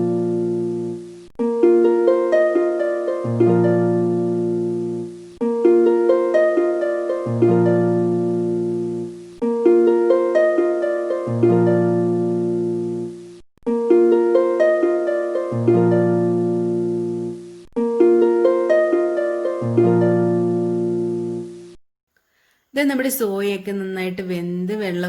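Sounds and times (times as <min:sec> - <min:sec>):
plucked notes looping: 0:00.0 - 0:21.8.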